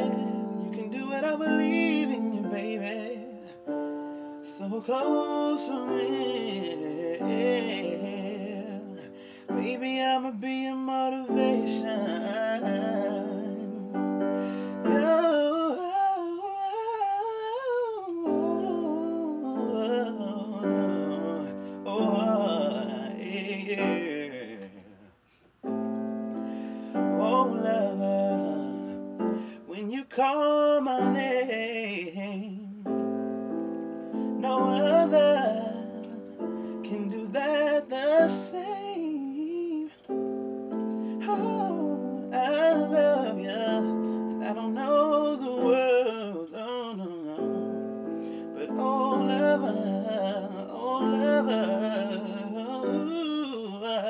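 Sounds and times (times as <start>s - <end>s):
electronic keyboard chords: 0.0s - 16.2s, 18.1s - 24.4s, 25.6s - 29.8s, 30.6s - 31.4s, 32.7s - 53.8s
man singing: 0.0s - 25.2s, 26.4s - 40.2s, 40.8s - 54.0s.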